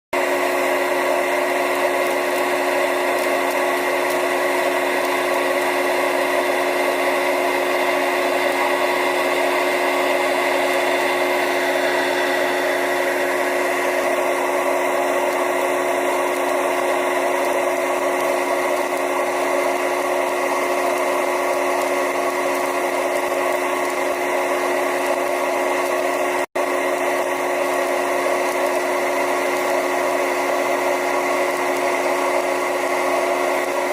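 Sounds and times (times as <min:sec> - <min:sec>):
electric motor humming and whining: 0:00.2 - 0:33.9.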